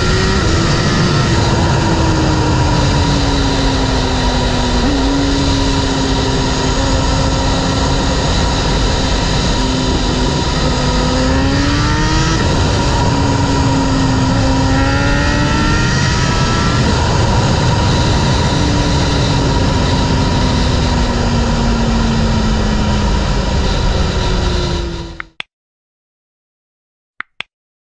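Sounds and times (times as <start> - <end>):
motorcycle engine pulling hard: 0.0 - 25.2
rush of riding wind: 0.0 - 25.2.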